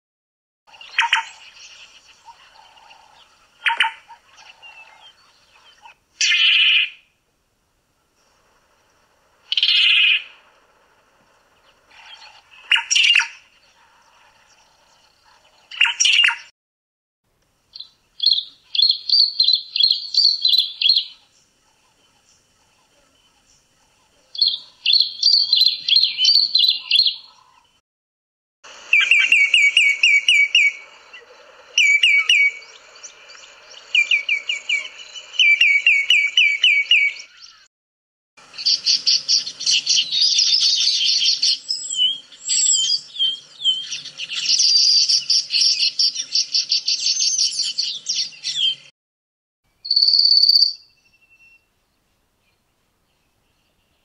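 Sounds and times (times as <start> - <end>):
bird chirping: 0.7 - 7.2, 8.7 - 16.5, 17.7 - 27.8, 28.7 - 37.7, 38.4 - 48.9, 49.7 - 54.0
long dense bird song: 0.7 - 16.5, 17.6 - 27.8, 28.7 - 37.7, 38.4 - 48.9, 49.7 - 54.0.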